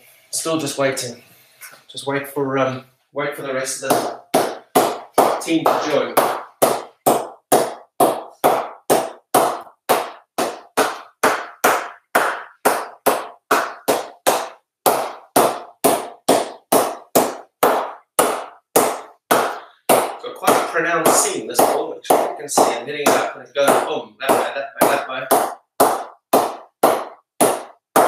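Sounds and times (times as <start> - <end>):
ball bouncing on cricket bat: 3.9 - 28.0.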